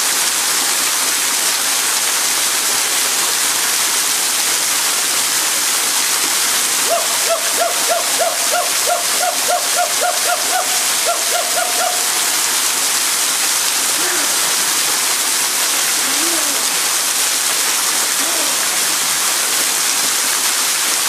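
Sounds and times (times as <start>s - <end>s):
waterfall pouring onto rocks: 0.0s - 21.0s.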